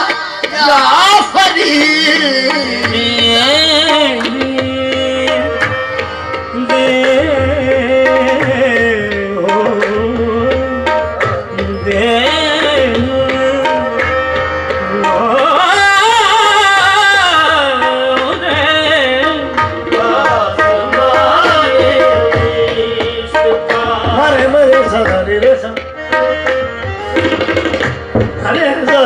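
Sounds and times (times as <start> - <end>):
tabla strokes: 0.0 - 29.0.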